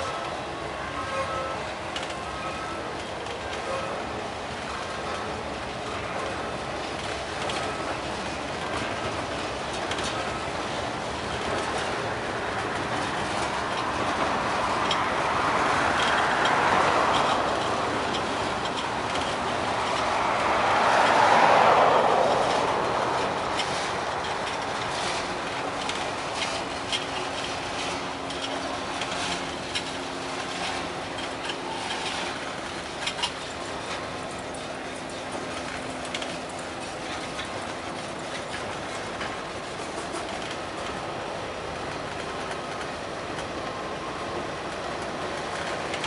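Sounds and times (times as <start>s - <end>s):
freight train wheels rumbling: 0.0s - 46.0s
wheels clicking and clattering: 0.0s - 46.0s.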